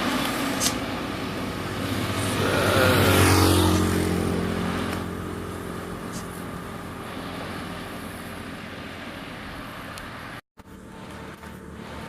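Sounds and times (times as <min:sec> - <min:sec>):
vehicle driving past: 0:00.0 - 0:12.0.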